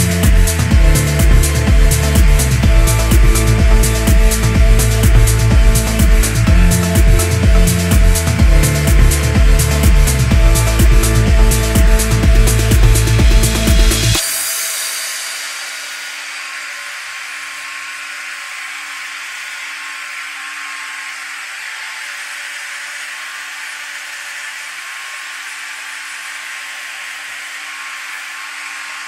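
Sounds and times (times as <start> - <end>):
angle grinder grinding steel: 0.0 - 29.0.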